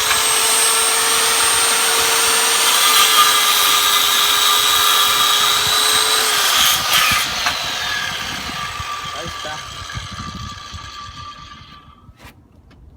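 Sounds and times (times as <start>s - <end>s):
circular saw motor whining: 0.0s - 12.1s.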